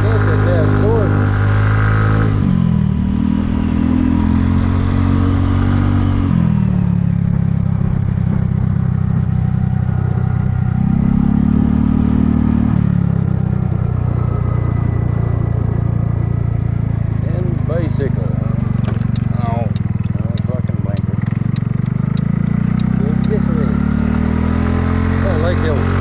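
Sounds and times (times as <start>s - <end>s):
scooter engine under throttle: 0.0s - 26.0s.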